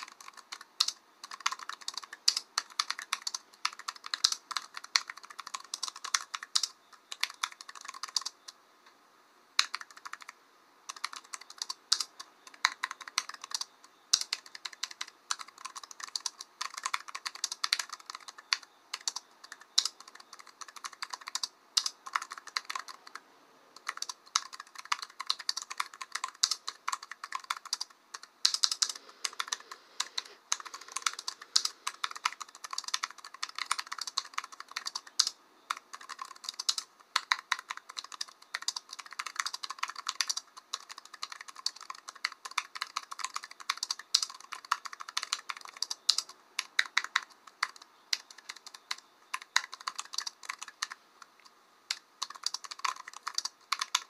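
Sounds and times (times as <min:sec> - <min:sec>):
typing on computer keyboard: 0:00.0 - 0:08.6, 0:09.6 - 0:23.2, 0:23.8 - 0:54.0.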